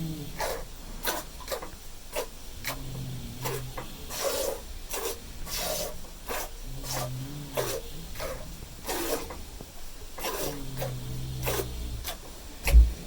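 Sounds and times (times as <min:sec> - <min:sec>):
cow snoring: 0:00.0 - 0:01.6, 0:02.2 - 0:09.5, 0:10.2 - 0:12.2.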